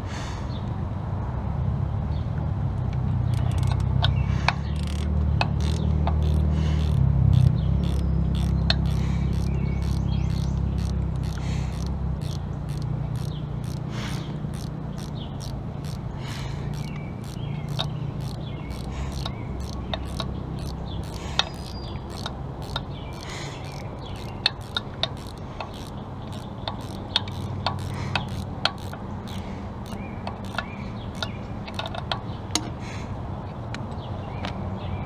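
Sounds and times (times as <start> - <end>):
wrench clicking on metal: 3.3 - 32.7.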